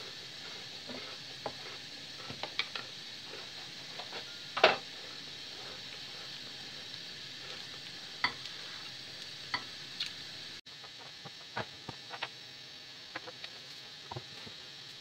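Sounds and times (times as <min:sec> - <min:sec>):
pancakes sizzling in a frying pan: 0:00.0 - 0:15.0.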